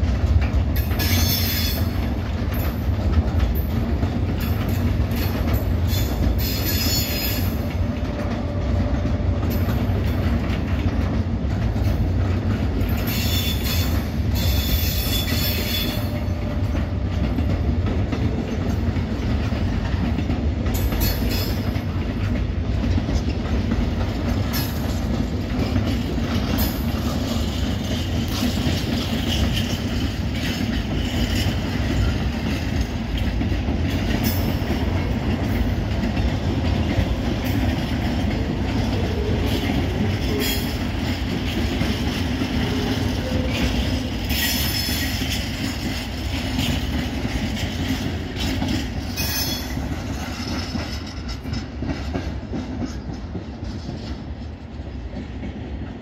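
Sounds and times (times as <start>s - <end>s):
train wheels rumbling on rail: 0.0s - 56.0s
wheels clacking over rail joints: 0.0s - 56.0s.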